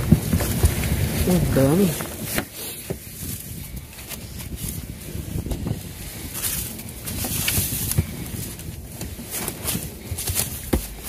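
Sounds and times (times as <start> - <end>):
plastic bags rustling: 0.0 - 11.0.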